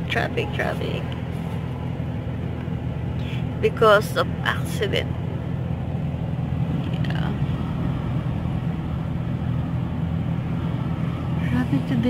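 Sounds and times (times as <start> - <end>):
car engine and road hum: 0.0 - 12.0.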